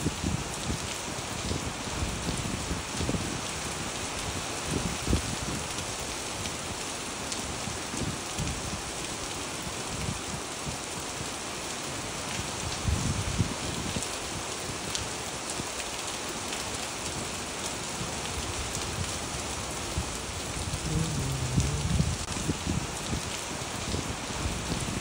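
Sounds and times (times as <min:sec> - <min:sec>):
rain splashing on wet pavement: 0:00.0 - 0:25.0.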